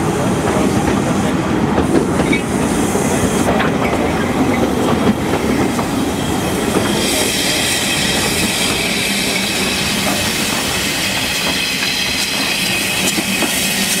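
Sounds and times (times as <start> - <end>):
steam hissing: 0.3 - 14.0.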